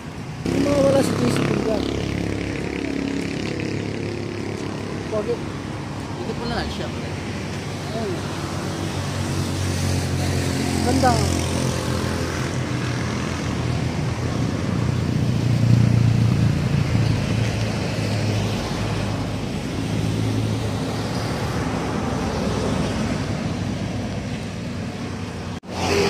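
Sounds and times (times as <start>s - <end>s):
highway traffic passing: 0.0s - 26.0s.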